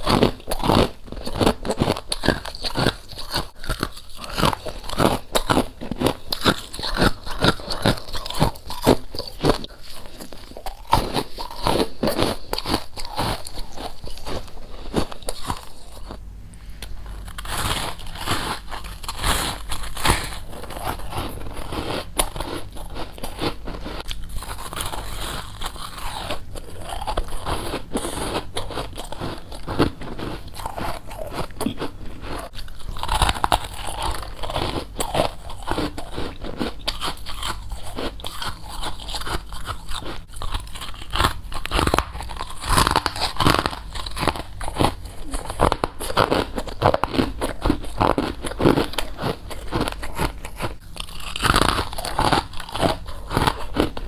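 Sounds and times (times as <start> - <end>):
mouth chewing crunchy frost: 0.0 - 54.0.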